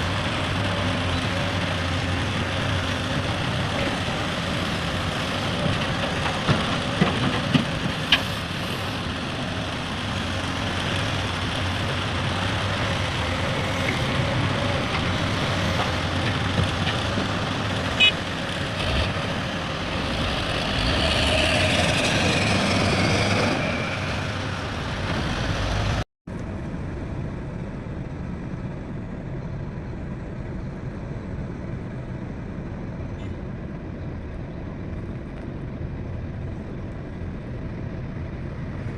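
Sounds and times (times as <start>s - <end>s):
diesel machinery engines droning: 0.0s - 38.9s.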